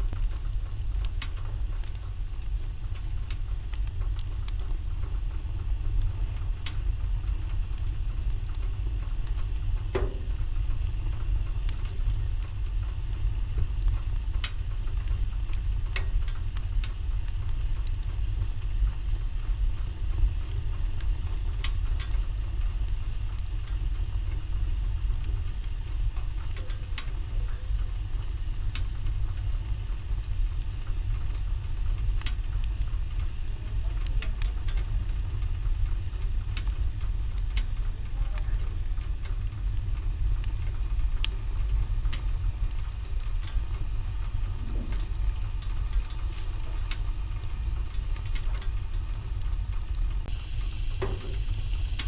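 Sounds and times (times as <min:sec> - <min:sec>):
fire pops: 0:00.0 - 0:52.0
low rumble: 0:00.0 - 0:52.0
wood fire crackling: 0:00.0 - 0:52.0.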